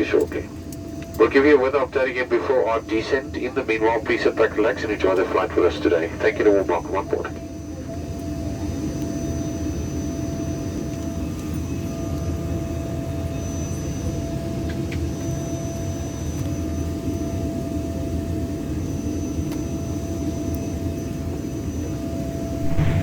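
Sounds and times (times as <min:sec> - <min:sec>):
airliner cabin low rumble: 0:00.0 - 0:23.0.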